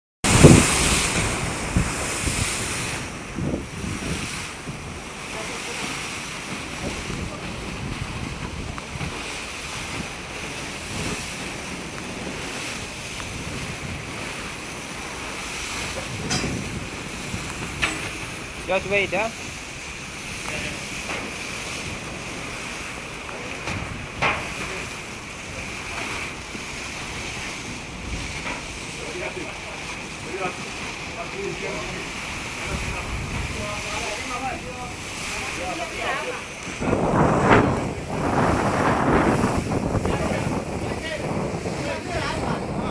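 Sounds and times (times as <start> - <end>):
low thumps from gusts: 0.2 - 42.9
sea waves rushing: 0.2 - 42.9
wind buffeting microphone: 0.2 - 42.9.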